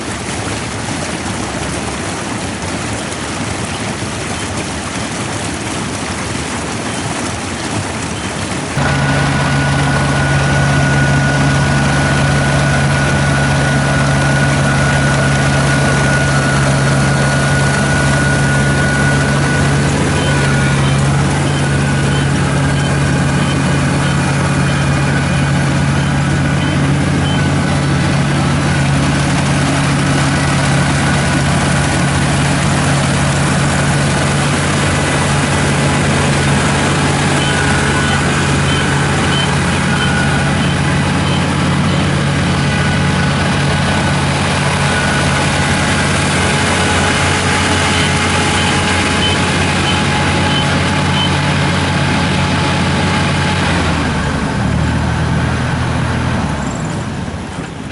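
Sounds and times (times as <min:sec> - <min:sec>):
combine harvester engine running: 0:00.0 - 0:57.9.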